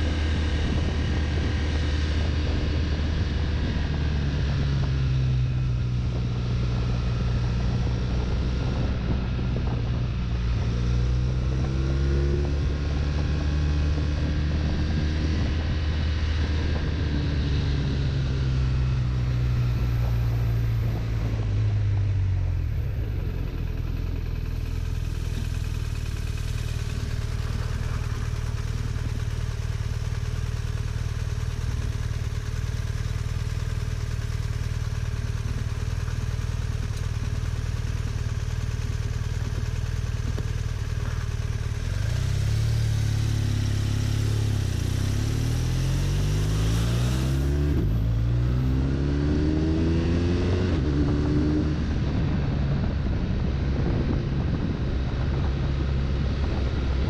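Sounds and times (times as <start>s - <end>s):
wind rush over microphone: 0.0s - 32.4s, 38.8s - 57.0s
motorcycle engine while riding: 0.0s - 57.0s.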